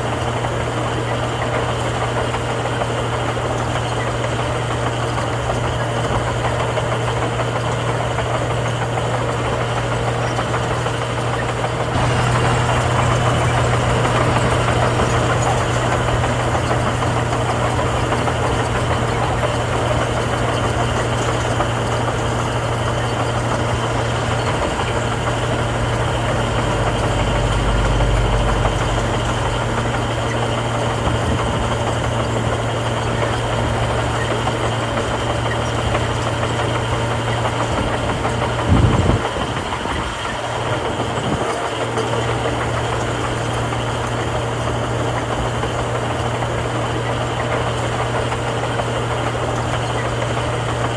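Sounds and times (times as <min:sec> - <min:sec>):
diesel engine of heavy machinery: 0:00.0 - 0:50.9.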